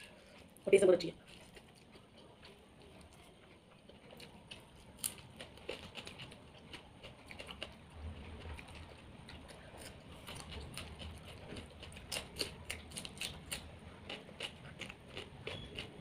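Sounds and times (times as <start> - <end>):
faint chewing: 0.0 - 16.0.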